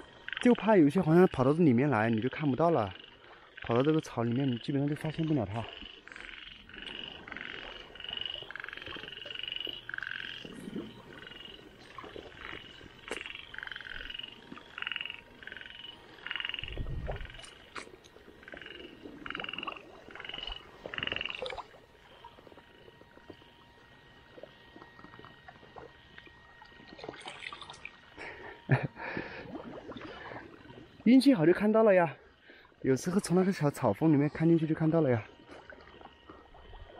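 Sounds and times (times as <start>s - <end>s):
frogs croaking: 0.0s - 36.9s.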